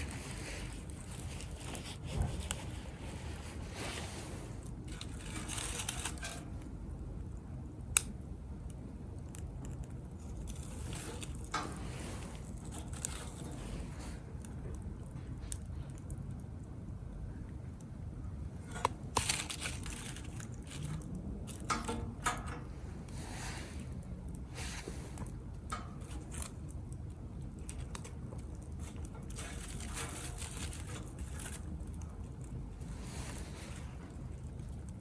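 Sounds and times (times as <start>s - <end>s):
wood fire crackling and popping: 0.0s - 16.8s, 17.5s - 35.0s.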